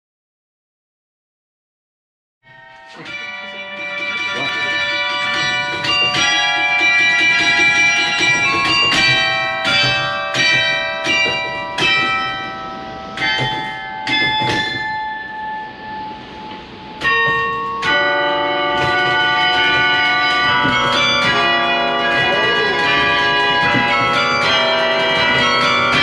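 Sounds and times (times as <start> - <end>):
carillon bells playing melody: 2.5 - 26.0.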